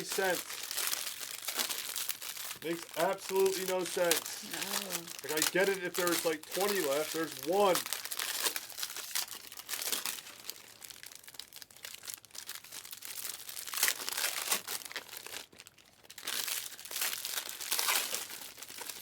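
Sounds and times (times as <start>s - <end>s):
foil wrappers crinkling and tearing: 0.0s - 19.0s.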